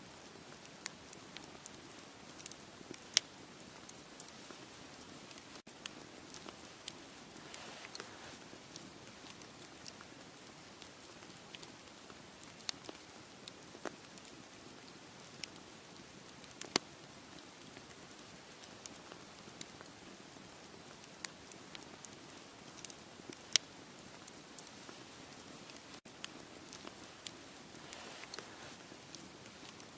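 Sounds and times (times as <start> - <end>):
campfire crackling and popping: 0.1 - 29.9.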